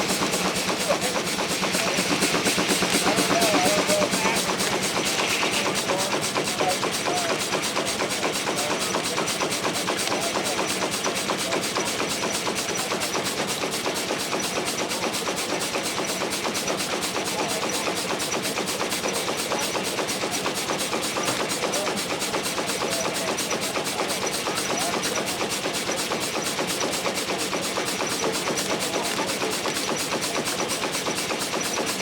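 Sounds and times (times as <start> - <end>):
sawmill machinery pulsing: 0.0 - 32.0.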